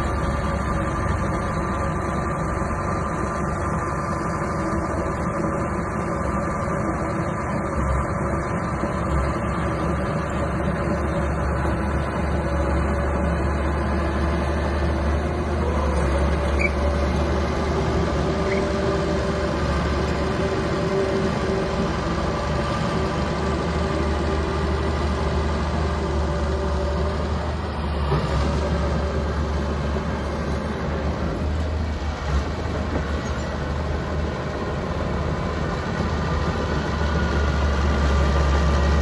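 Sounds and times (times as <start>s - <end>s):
bulldozer diesel engine running: 0.0s - 39.0s.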